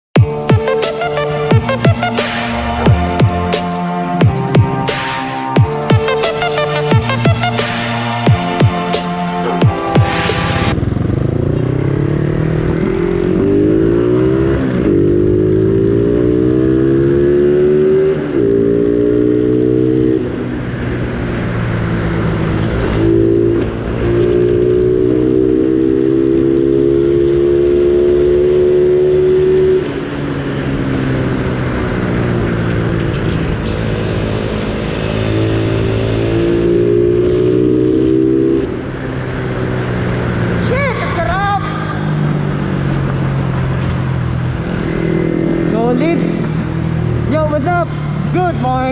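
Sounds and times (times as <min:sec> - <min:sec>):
motorcycle engine revving: 0:00.2 - 0:48.9.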